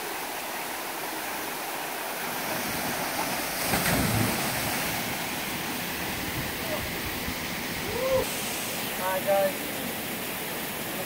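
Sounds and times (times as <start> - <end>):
rush of falling water: 0.0 - 11.0.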